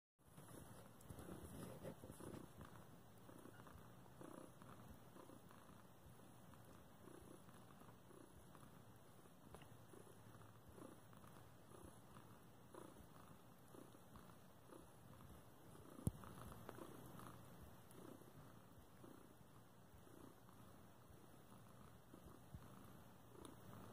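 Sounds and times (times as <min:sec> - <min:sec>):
cat purring: 0:00.3 - 0:23.9.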